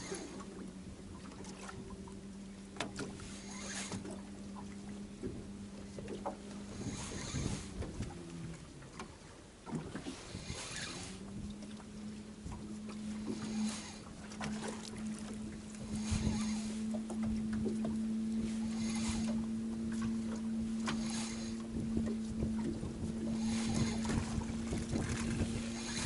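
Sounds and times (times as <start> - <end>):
low motor hum: 0.0 - 26.0
water splashing against hull: 0.0 - 26.0
wind: 0.0 - 26.0.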